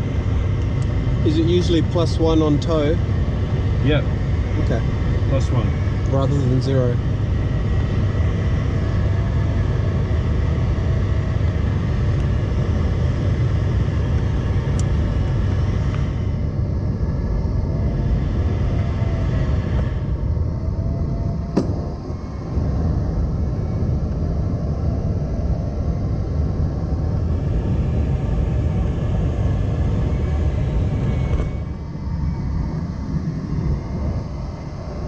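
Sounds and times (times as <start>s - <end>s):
faint aircraft engine hum: 0.0s - 35.0s
rumble and rush of airflow: 0.0s - 35.0s.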